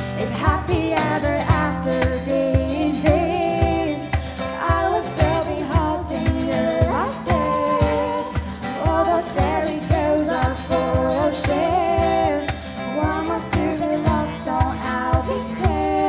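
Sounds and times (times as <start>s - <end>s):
vocal ensemble singing in harmony: 0.0s - 16.0s.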